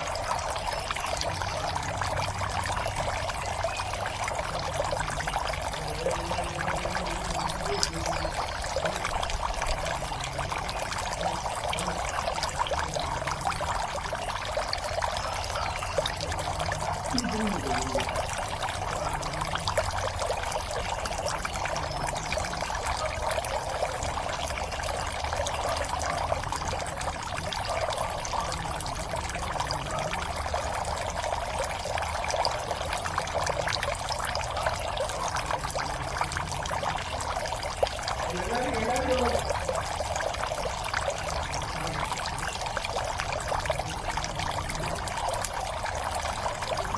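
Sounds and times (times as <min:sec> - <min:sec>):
water splashing into pond: 0:00.0 - 0:46.9.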